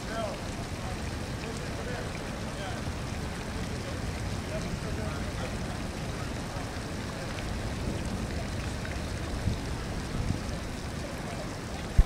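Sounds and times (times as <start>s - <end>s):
low uneven rumble: 0.0s - 12.0s
steady rain: 0.0s - 12.0s.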